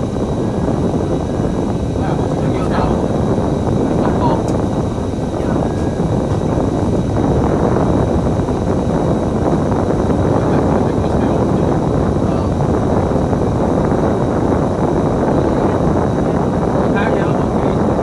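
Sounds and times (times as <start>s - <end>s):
bus engine and road noise: 0.0s - 18.0s.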